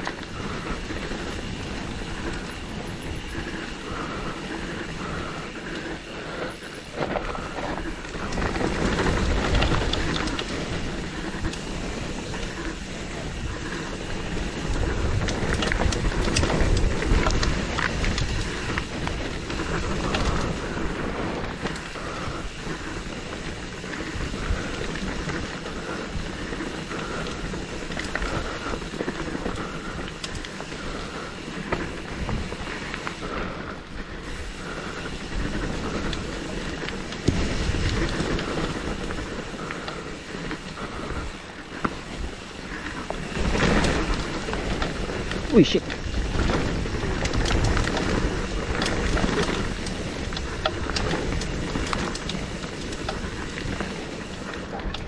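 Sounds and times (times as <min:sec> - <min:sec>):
bike rattling over bumps: 0:00.0 - 0:55.0
tyre and wind rush: 0:00.0 - 0:55.0.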